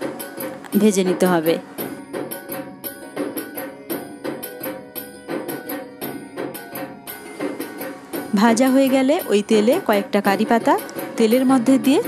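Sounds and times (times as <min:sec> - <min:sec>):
music with percussion beat: 0:00.0 - 0:12.0.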